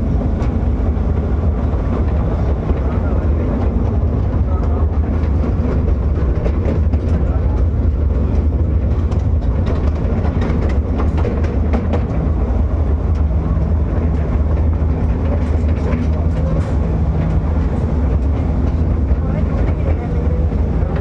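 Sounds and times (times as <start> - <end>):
miniature train drive rumble: 0.0 - 21.0
wheels clicking on track: 0.0 - 21.0.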